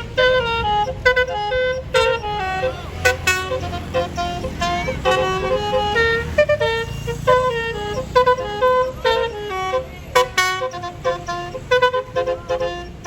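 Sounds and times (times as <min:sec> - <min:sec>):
musical air horn tune: 0:00.0 - 0:13.0.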